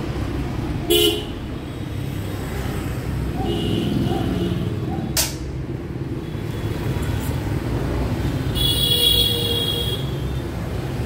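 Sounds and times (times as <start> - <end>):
motorbike engines rumbling: 0.0 - 11.0.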